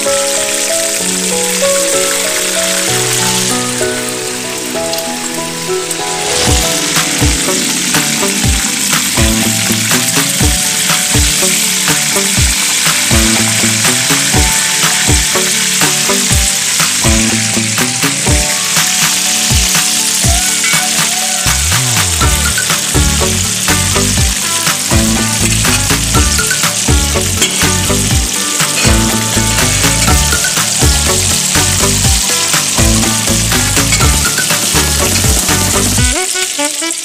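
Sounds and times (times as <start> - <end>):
background music with beat: 0.0 - 36.9
food sizzling in hot oil: 0.0 - 37.0.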